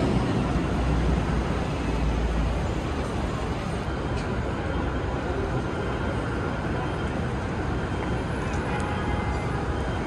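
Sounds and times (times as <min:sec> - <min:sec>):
car and bus traffic: 0:00.0 - 0:10.0.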